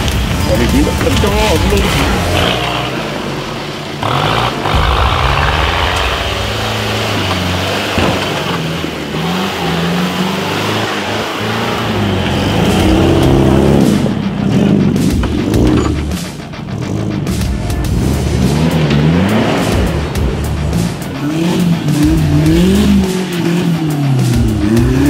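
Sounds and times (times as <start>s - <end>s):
off-road engine revving hard: 0.0s - 25.0s.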